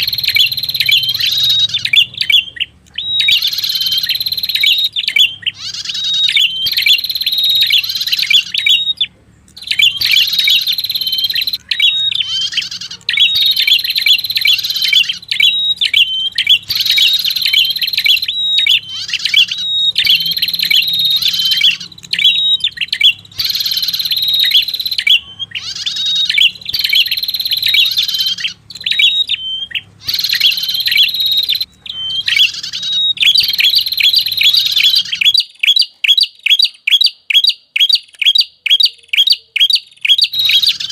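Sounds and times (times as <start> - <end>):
recorded bird chirping: 0.0 - 40.9.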